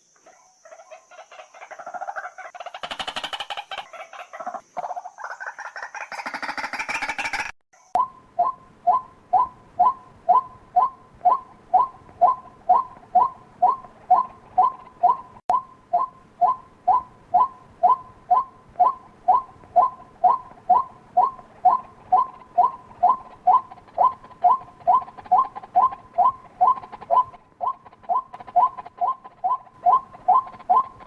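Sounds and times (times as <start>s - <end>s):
waterhen two-toned calls: 0.0s - 31.0s.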